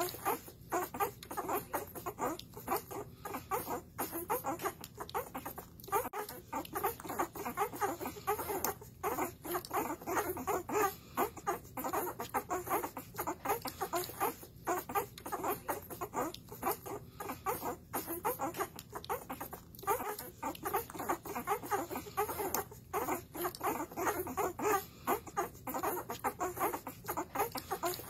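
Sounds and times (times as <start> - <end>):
puppies squeaking: 0.0 - 28.0
puppies suckling and smacking: 0.0 - 28.0.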